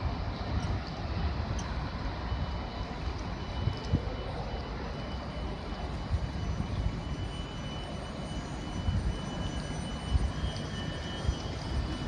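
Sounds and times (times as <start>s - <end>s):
high-pitched whine: 0.0s - 12.0s
train wheels rumbling on rails: 0.0s - 12.0s.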